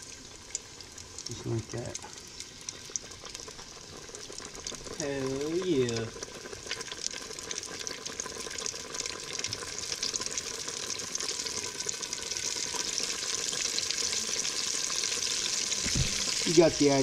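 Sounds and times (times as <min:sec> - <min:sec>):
fish deep-frying in oil: 0:00.0 - 0:17.0.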